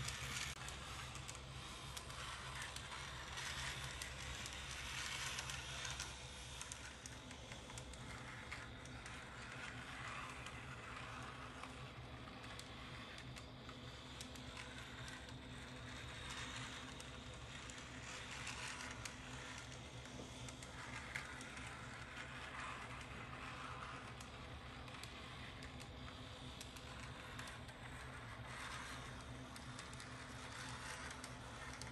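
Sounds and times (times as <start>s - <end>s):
model tram motor whirring: 0.0s - 31.9s.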